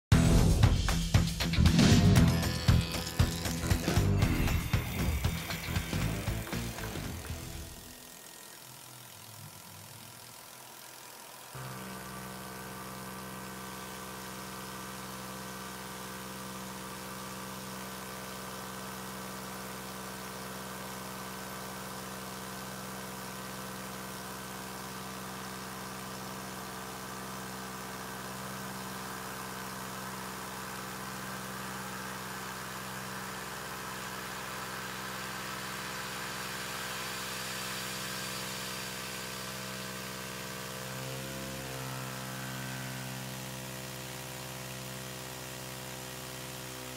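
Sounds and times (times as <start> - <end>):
milling machine hum: 1.5 - 46.9.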